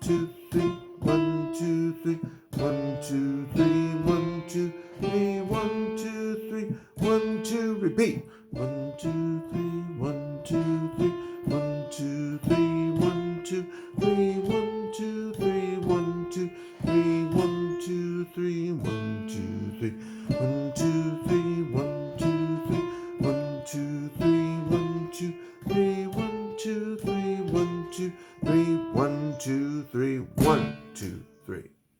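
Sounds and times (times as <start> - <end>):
piano piece: 0.0 - 31.4.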